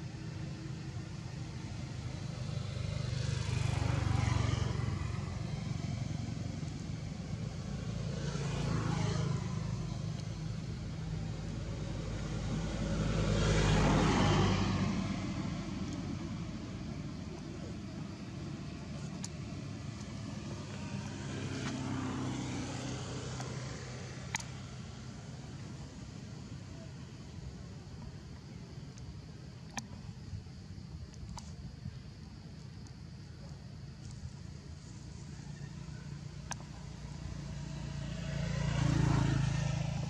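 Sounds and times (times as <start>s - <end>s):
distant motor engine humming: 0.0s - 40.0s.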